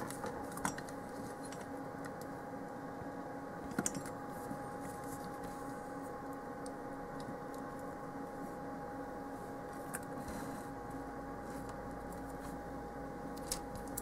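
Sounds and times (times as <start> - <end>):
fume extractor fans humming: 0.0 - 14.0.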